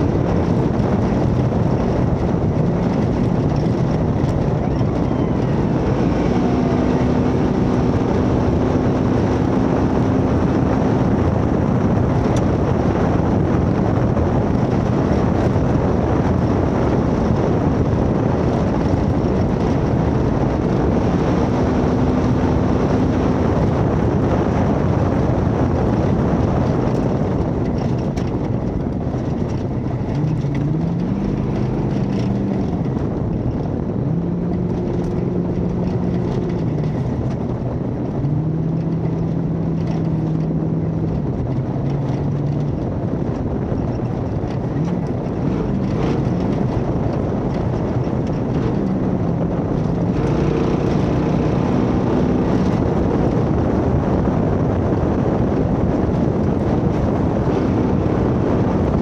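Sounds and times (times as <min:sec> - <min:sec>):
heavy wind: 0:00.0 - 0:59.0
terrain rumble: 0:00.0 - 0:59.0
truck engine running hard: 0:00.0 - 0:59.0.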